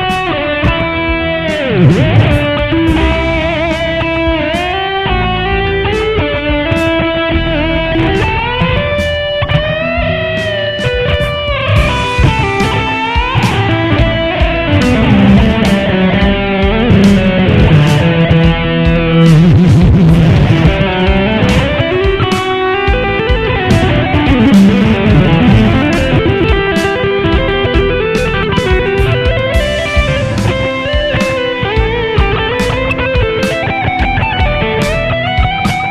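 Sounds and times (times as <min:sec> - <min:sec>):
electric guitar lead lines: 0:00.0 - 0:35.9
steady ticking beat: 0:00.0 - 0:35.9.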